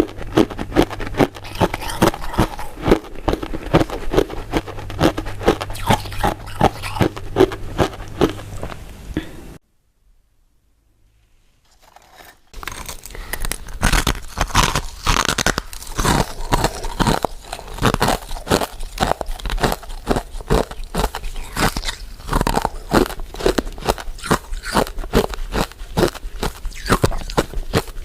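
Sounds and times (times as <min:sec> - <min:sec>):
chewing crunchy sweets: 0:00.0 - 0:08.8, 0:11.7 - 0:28.0.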